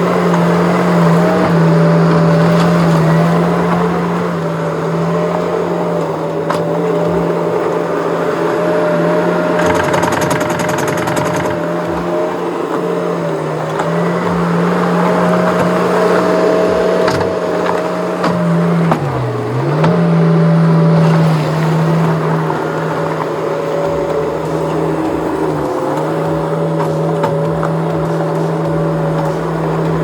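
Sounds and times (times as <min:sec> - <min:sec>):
rapid rattling clatter: 0:00.0 - 0:30.0
skid steer engine running: 0:00.0 - 0:30.0.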